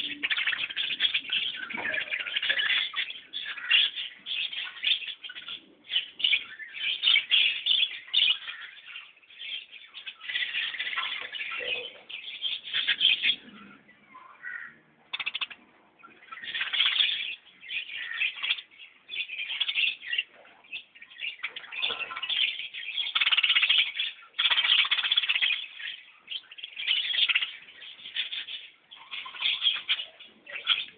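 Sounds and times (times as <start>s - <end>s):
birds chattering: 0.0s - 30.9s.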